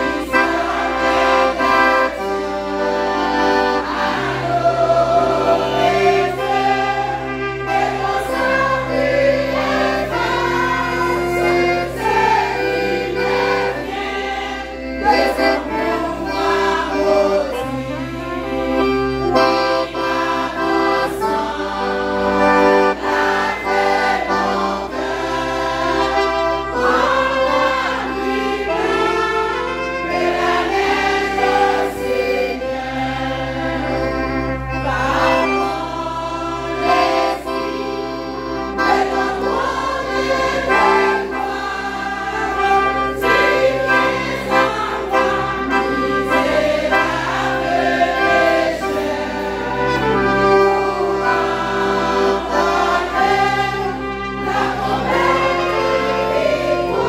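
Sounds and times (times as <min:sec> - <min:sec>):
accordion: 0:00.0 - 0:57.0
women's choir singing a hymn: 0:00.0 - 0:57.0.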